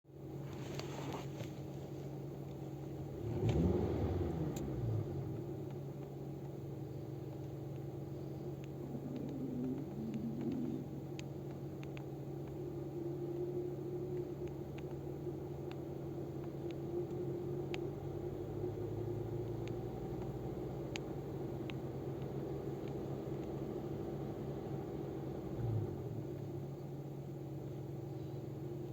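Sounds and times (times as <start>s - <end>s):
car engine revving and idling: 0.1s - 28.9s.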